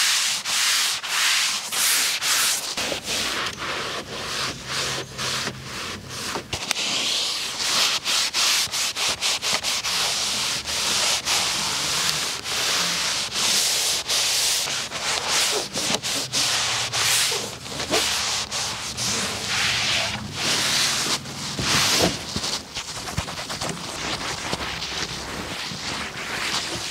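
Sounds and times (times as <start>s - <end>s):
hand scrubbing car surface: 0.0s - 26.9s.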